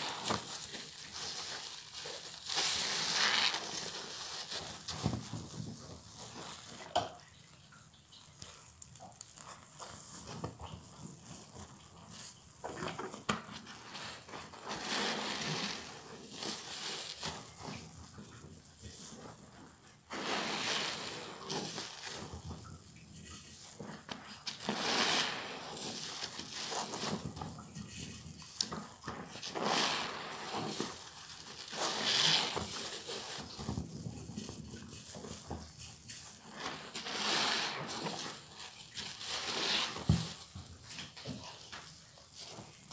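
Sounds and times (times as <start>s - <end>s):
soapy sponges squelching: 0.0s - 42.9s.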